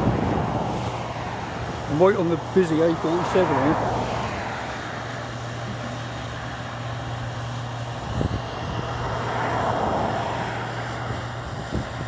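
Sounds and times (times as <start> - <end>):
vehicle passing: 0.0 - 11.8
traffic engine drone: 0.0 - 12.0.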